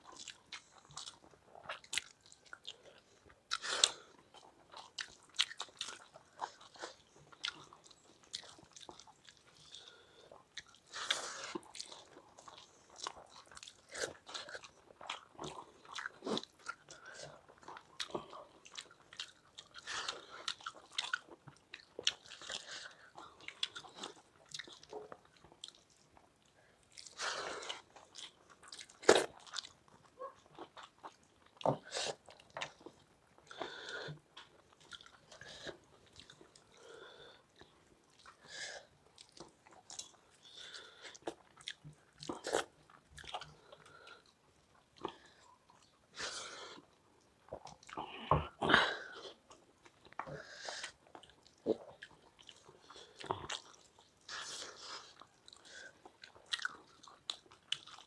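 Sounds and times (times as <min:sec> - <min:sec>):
people chewing and smacking: 0:00.0 - 0:58.0.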